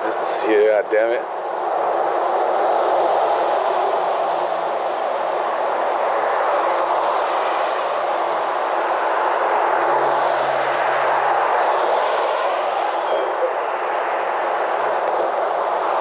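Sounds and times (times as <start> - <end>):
traffic on a wet road: 0.0 - 16.0.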